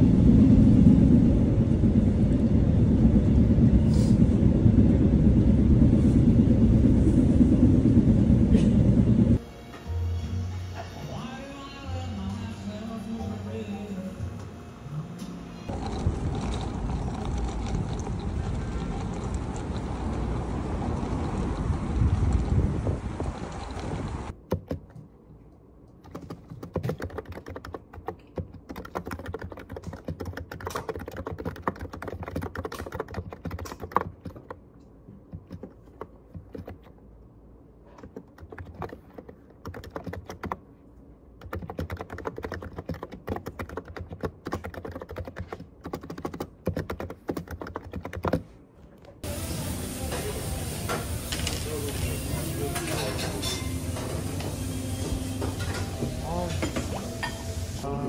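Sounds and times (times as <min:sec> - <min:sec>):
outdoor noise: 0:00.0 - 0:58.0.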